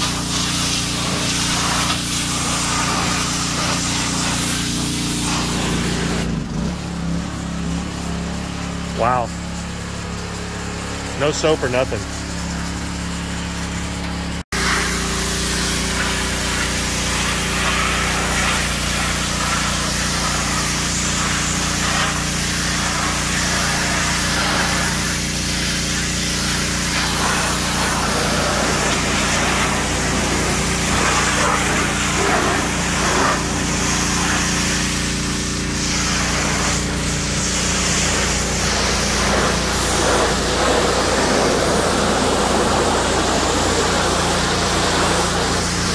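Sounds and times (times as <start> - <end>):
engine hum: 0.0 - 45.9
pressure washer spray hissing: 0.0 - 45.9.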